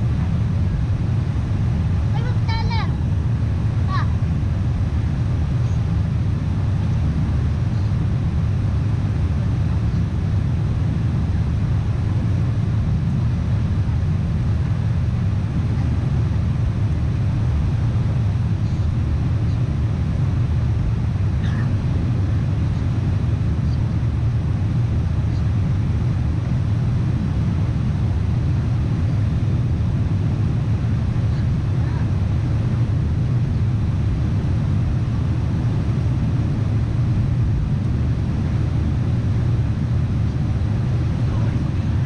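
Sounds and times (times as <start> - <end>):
airplane cabin engine drone: 0.0 - 42.0.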